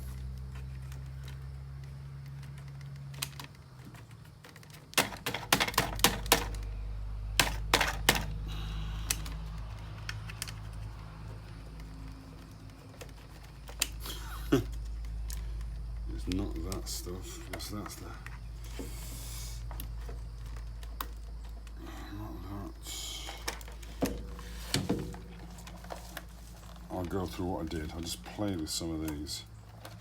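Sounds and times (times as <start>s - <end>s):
clicks and rattles of wiring connectors: 0.0s - 6.8s, 7.4s - 18.8s, 19.6s - 21.8s, 23.1s - 30.0s
steady low hum: 5.2s - 30.0s.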